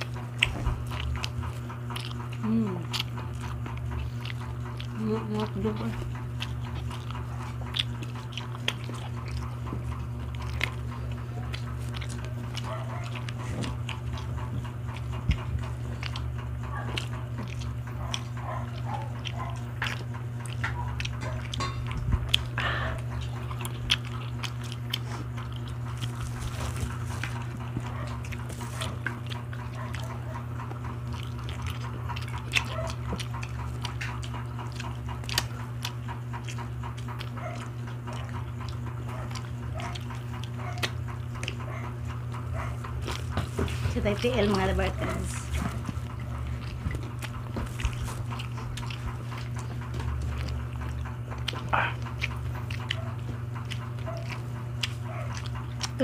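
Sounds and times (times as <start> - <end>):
chewing and lip-smacking: 0.0 - 56.0.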